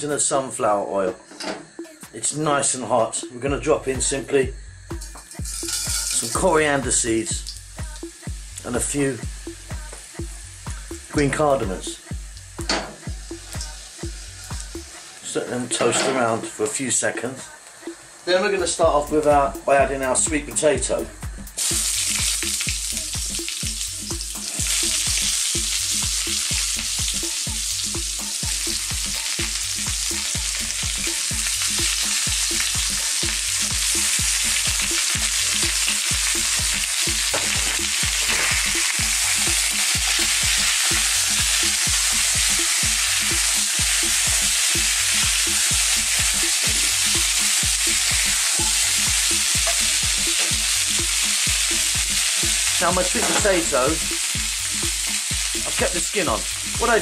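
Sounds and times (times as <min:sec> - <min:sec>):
food sizzling in hot oil: 0:04.0 - 0:57.0.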